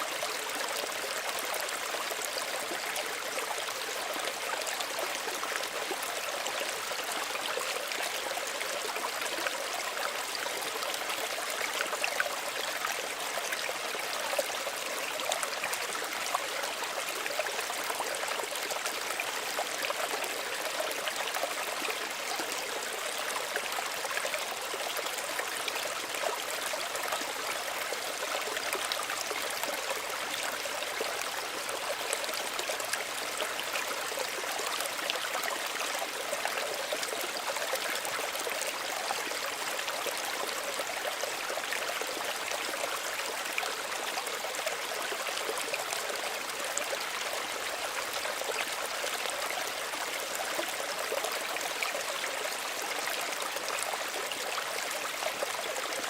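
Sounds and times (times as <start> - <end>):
small stream trickling: 0.0 - 56.0.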